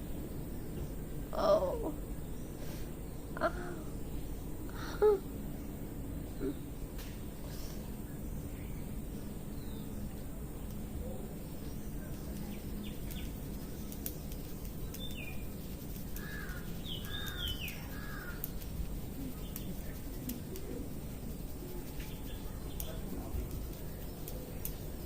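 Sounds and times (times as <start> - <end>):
birds calling: 0.0 - 25.0
low background rumble: 0.0 - 25.0.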